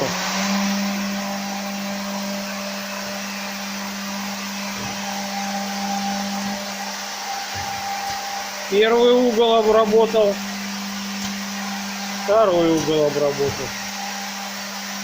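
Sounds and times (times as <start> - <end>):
machine motor hum: 0.0 - 15.0
air hiss: 2.0 - 15.0.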